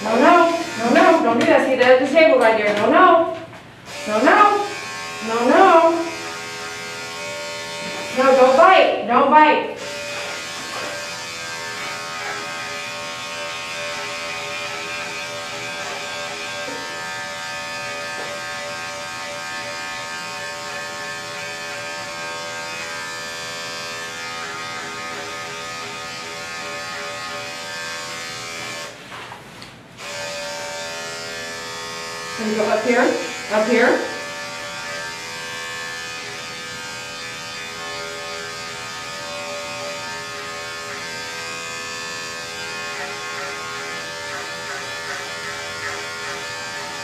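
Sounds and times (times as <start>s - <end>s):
electric dog clipper humming: 0.0s - 29.2s, 30.0s - 47.0s.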